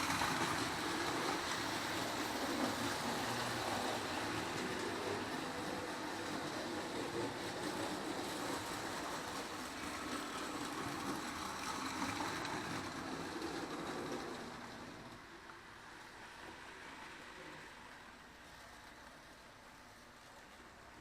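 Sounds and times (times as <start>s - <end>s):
model trains running: 0.0s - 21.0s.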